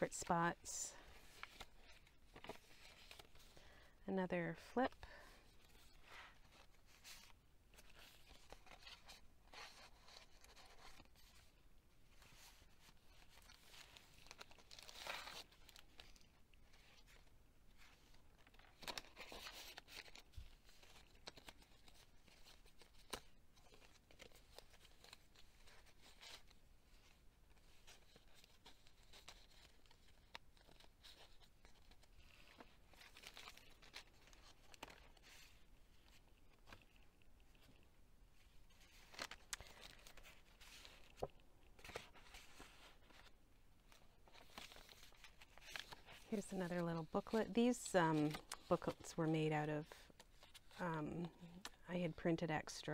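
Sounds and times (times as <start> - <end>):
paper rustling and crinkling: 1.0 - 3.9, 4.6 - 49.2, 49.8 - 51.8.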